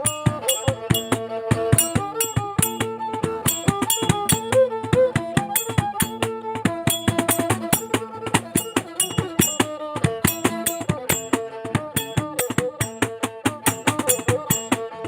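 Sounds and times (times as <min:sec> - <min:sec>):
fiddle playing gliding melody: 0:00.0 - 0:15.0
percussion hits: 0:00.0 - 0:15.0.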